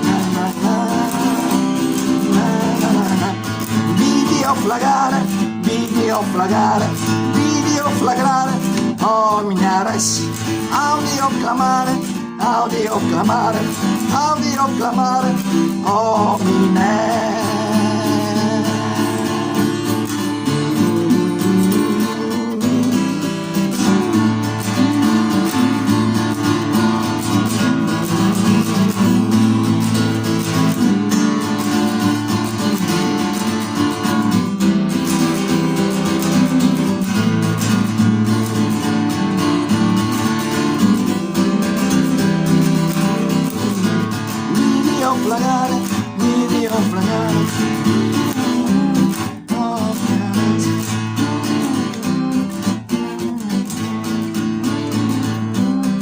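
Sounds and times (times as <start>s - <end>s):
acoustic guitars strumming: 0.0s - 56.0s.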